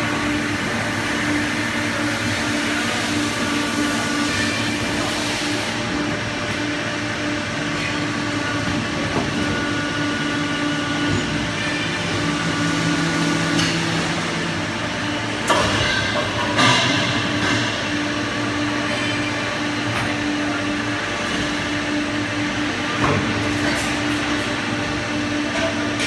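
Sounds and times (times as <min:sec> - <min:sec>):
pipe bending machine hum: 0:00.0 - 0:26.0.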